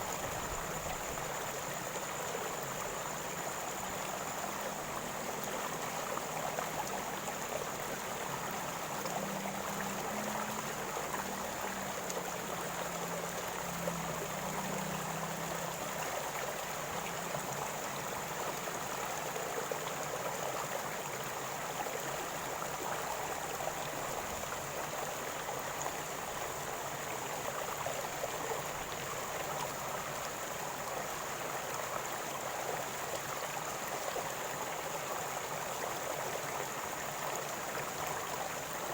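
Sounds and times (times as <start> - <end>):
river water flowing over stones: 0.0 - 38.9.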